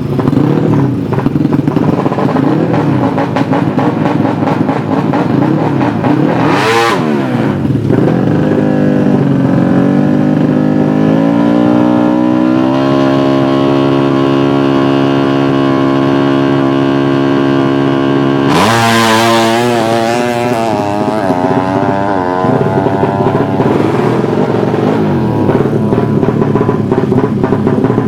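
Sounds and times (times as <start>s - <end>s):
motorcycle engine revving high: 0.0s - 28.0s.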